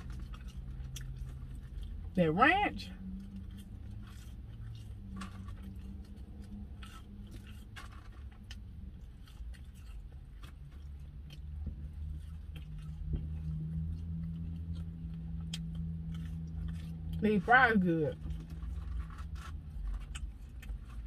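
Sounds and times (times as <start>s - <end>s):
low steady hum: 0.0s - 21.0s
person chewing crunchy fries: 0.0s - 21.0s.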